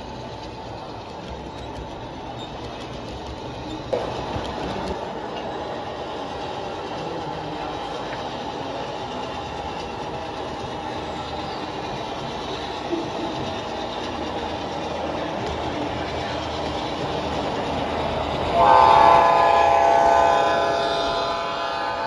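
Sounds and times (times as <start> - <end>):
clicking over rail joints: 0.0 - 5.7, 6.5 - 18.5
model train wheels rumbling on rails: 0.0 - 22.0.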